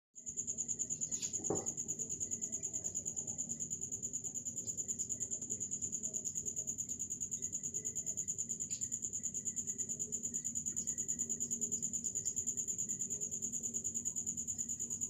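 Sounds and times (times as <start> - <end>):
cricket chirping: 0.2 - 15.0.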